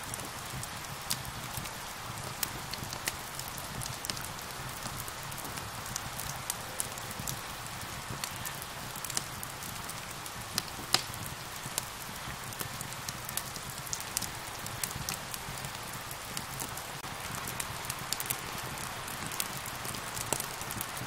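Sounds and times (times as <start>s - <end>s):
fire crackling and popping: 0.0s - 21.0s
rain falling hiss: 0.0s - 21.0s.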